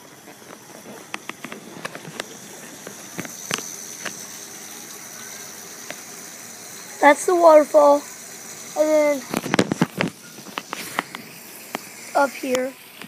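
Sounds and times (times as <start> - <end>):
thin high-pitched whine: 0.0 - 13.0.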